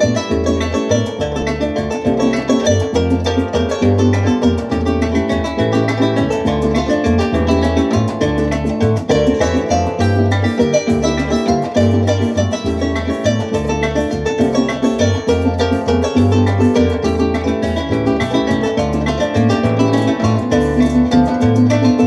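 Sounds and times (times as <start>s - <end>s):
bass line: 0.0s - 22.0s
fast percussive rhythm: 0.0s - 22.0s
harp plucked melody: 0.0s - 22.0s.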